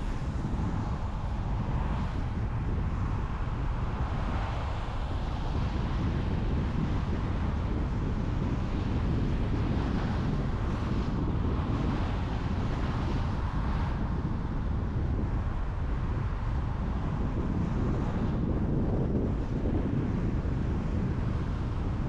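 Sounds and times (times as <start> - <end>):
wind noise from driving car: 0.0 - 22.0.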